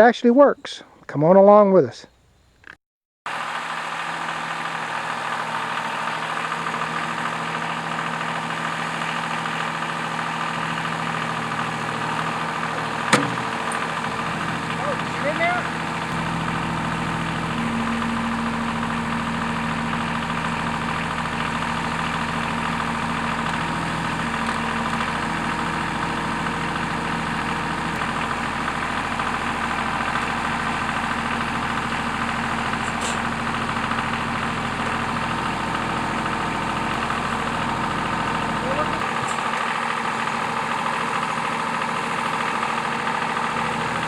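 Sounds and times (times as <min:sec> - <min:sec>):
tractor engine idling: 0:03.3 - 0:44.0.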